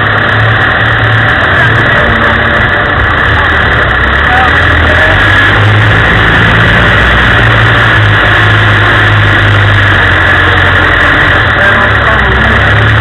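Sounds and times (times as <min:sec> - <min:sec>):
car engine running inside cab: 0:00.0 - 0:13.0.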